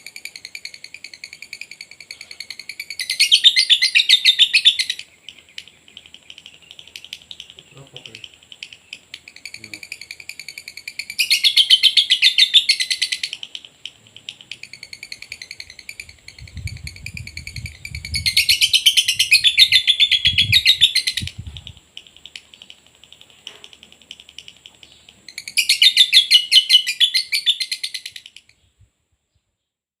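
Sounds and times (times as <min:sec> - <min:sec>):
lovebird chattering song: 0:00.0 - 0:28.8.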